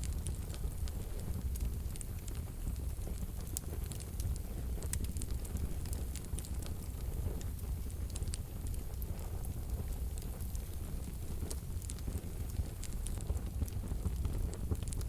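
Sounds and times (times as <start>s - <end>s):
flames rumbling in stove: 0.0s - 15.0s
logs crackling and popping: 0.0s - 15.0s.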